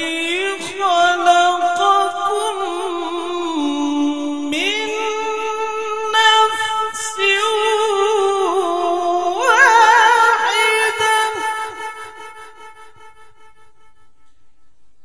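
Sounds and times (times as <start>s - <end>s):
man reciting melodically: 0.0s - 12.8s.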